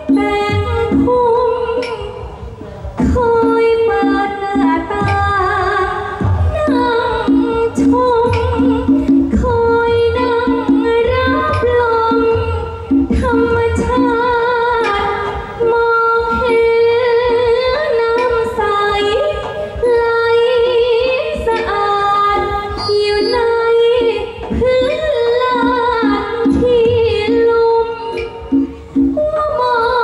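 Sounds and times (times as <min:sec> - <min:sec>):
drums beating: 0:00.0 - 0:30.0
woman singing through microphone: 0:00.0 - 0:30.0.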